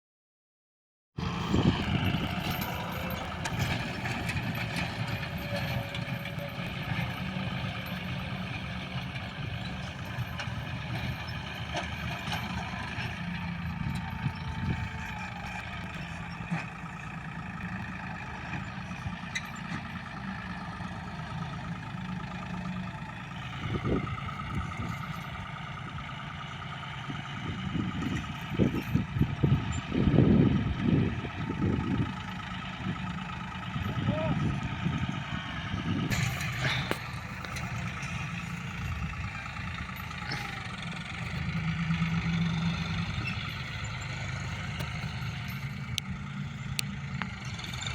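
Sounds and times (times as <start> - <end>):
tractor diesel engine running: 1.2 - 47.9.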